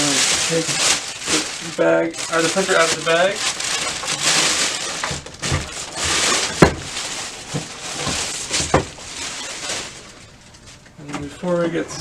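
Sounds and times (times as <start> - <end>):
plastic bag rustling: 0.0 - 10.9.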